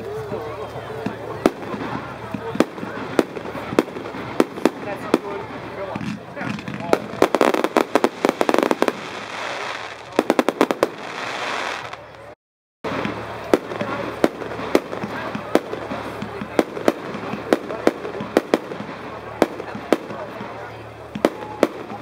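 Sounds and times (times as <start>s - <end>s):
fireworks crackling pops: 0.2s - 22.0s
firework sharp bangs: 1.0s - 12.3s, 12.9s - 22.0s.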